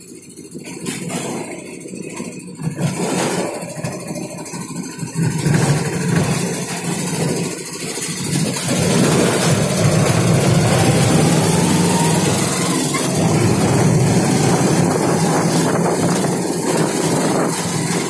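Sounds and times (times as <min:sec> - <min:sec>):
auto-rickshaw engine running: 0:00.0 - 0:18.0
rattling road noise: 0:00.0 - 0:18.0.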